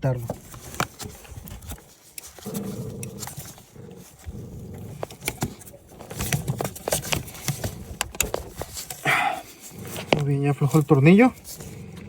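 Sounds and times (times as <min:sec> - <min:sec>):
low rough rasping: 0:00.8 - 0:12.0.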